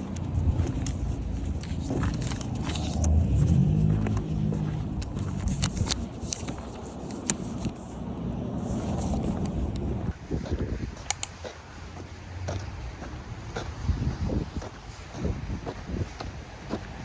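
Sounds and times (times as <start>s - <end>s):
motor vehicle rumble: 0.0s - 17.0s.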